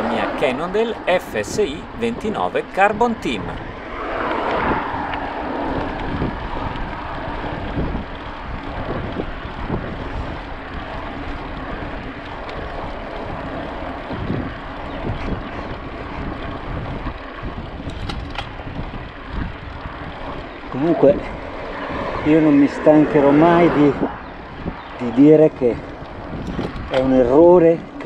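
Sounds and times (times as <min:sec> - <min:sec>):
bike rolling noise: 0:00.0 - 0:28.0
wind buffeting microphone: 0:00.0 - 0:28.0.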